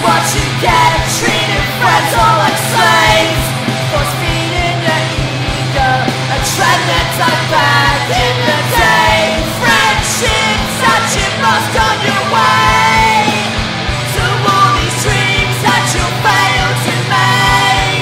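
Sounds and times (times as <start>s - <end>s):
punk rock band playing: 0.0s - 18.0s.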